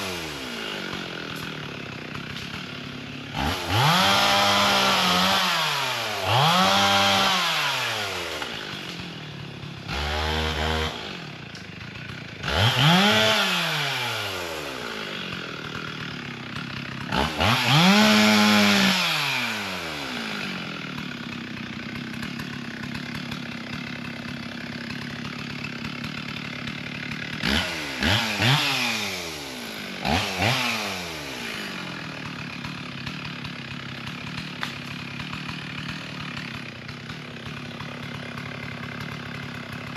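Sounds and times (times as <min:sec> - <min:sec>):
chainsaw idling: 0:00.0 - 0:39.9
chainsaw revving: 0:00.0 - 0:39.9.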